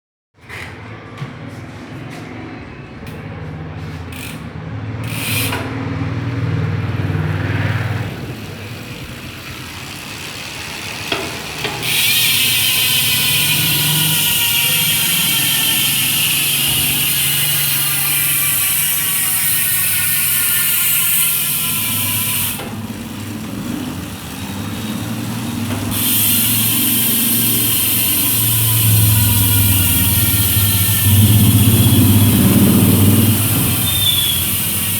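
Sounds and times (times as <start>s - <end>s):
bicycle freehub ratchet buzzing: 4.0s - 34.9s.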